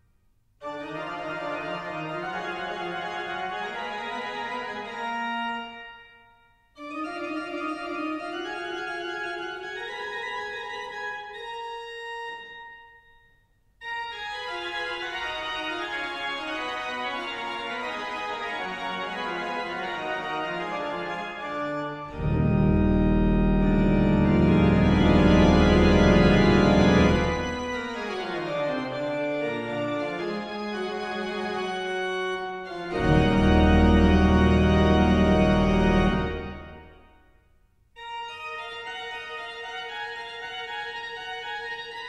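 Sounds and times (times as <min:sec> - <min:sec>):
organ-like keyboard chords: 0:00.6 - 0:37.2, 0:38.0 - 0:42.0.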